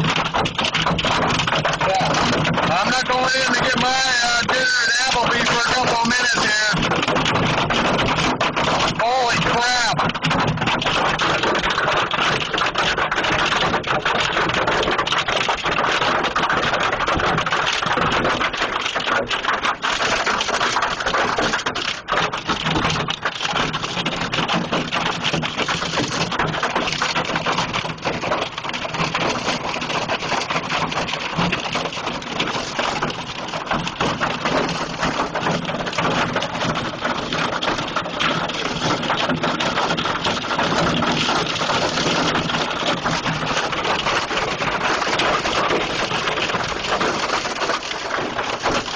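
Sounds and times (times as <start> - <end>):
hailstones clattering: 0.0 - 48.9.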